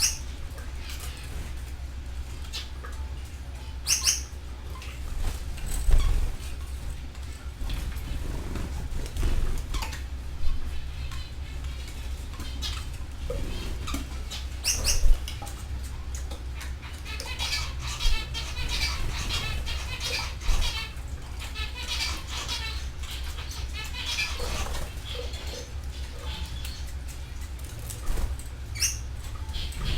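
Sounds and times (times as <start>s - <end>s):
canaries chirping: 0.0s - 1.8s, 2.4s - 7.0s, 7.6s - 29.9s
steady low hum: 0.0s - 29.9s
wing flutters: 3.8s - 29.9s.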